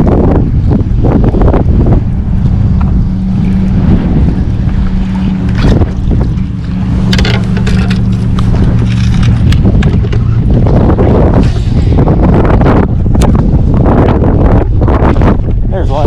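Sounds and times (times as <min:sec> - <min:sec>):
boat motor humming: 0:00.0 - 0:16.0
wind buffeting microphone: 0:00.0 - 0:16.0.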